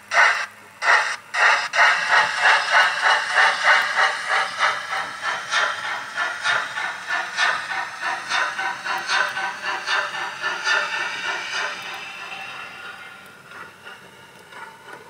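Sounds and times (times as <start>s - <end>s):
steam exhaust chuffs from small speaker: 0.0s - 14.2s.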